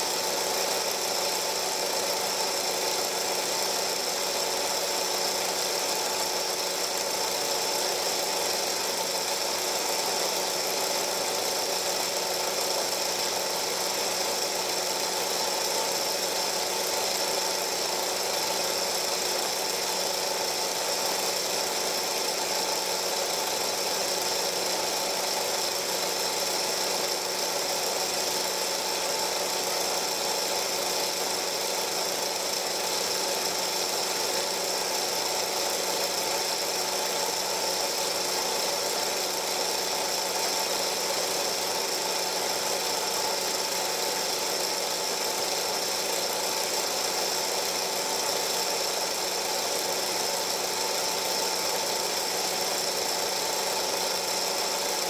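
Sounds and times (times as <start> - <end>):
film projector hum with hiss: 0.0 - 55.0.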